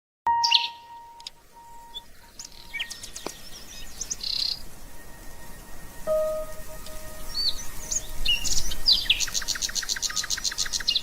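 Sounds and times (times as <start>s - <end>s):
small birds chirping: 0.3s - 4.8s, 6.1s - 11.0s.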